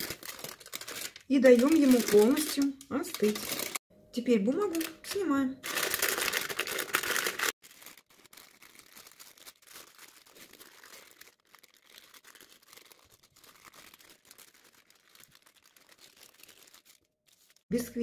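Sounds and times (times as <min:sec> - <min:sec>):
paper crackling and rustling: 0:00.0 - 0:03.8, 0:05.6 - 0:17.7.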